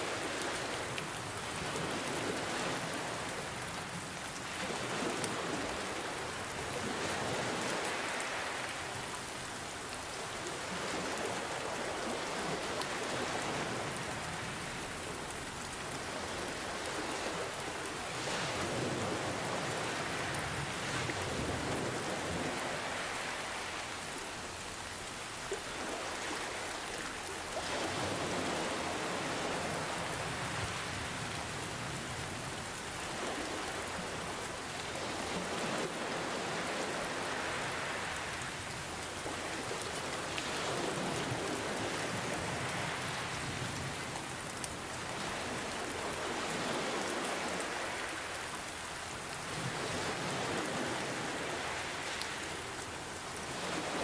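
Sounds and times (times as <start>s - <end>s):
gentle ocean waves: 0.0s - 54.0s
steady rain falling: 0.0s - 54.0s.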